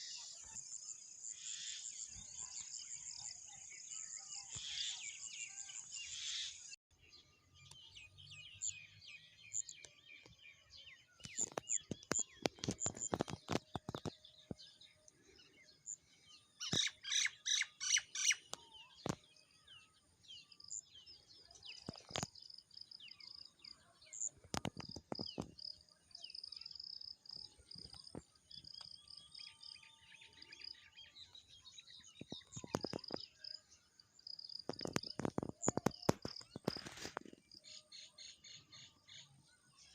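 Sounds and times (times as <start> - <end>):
birds chirping and calling: 0.0 - 6.8, 7.6 - 33.6, 34.2 - 39.9.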